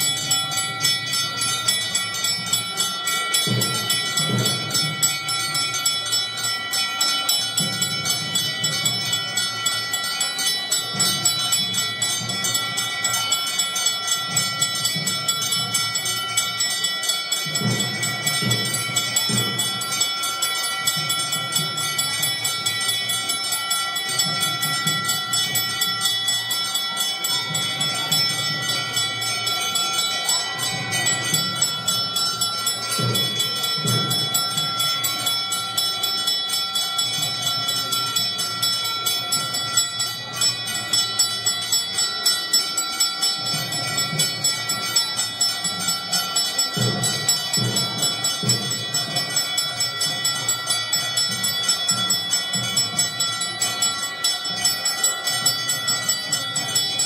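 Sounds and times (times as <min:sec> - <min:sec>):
temple bells ringing: 0:00.0 - 0:57.0.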